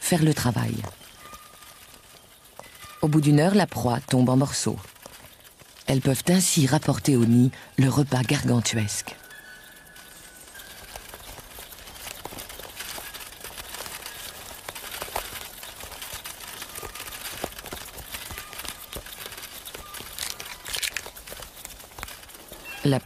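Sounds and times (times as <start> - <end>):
ants rustling and clicking: 0.0 - 23.0.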